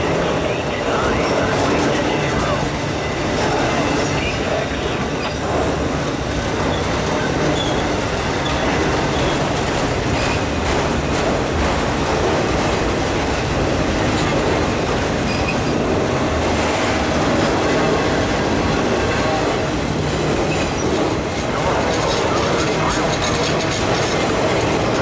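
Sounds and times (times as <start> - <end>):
freight cars rolling on rails: 0.0 - 25.0.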